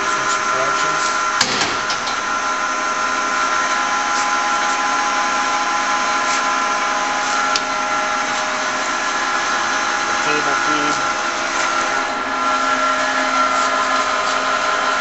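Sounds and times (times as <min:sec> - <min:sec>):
lathe gear whine: 0:00.0 - 0:15.0.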